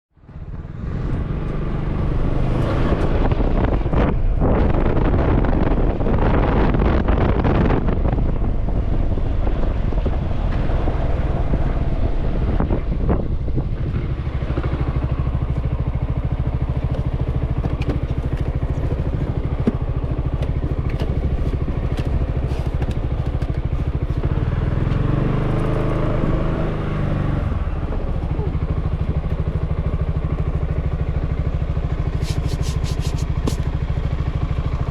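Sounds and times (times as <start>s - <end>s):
motorbike engine running: 0.2s - 34.9s
wind on microphone: 0.4s - 29.1s.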